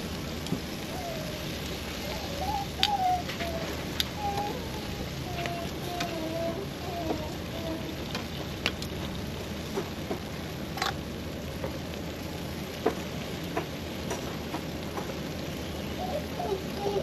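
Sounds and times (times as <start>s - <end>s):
food sizzling on grill: 0.0s - 17.0s.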